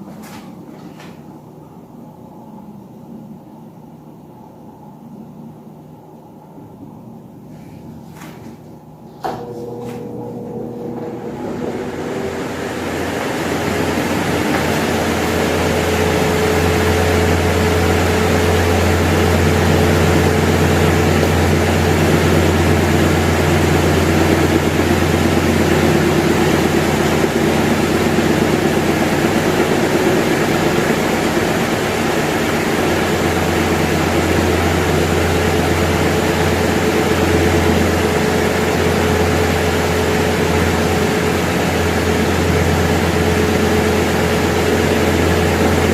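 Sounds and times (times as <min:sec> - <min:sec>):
electric fan running: 0:00.0 - 0:45.9.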